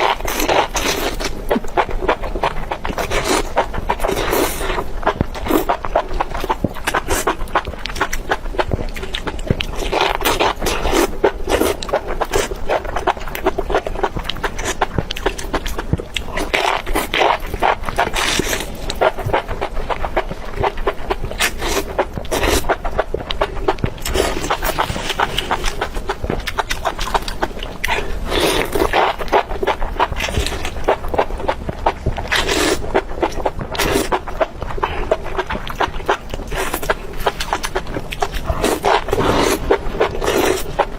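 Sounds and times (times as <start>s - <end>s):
chewing and crunching: 0.0s - 40.9s.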